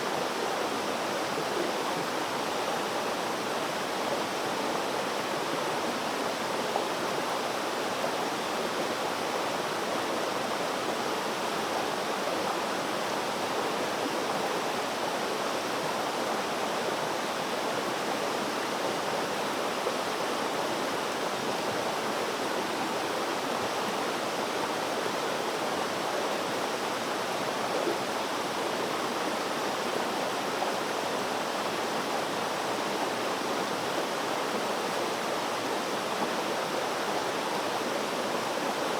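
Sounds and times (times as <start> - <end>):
water flowing in a stream: 0.0 - 38.9.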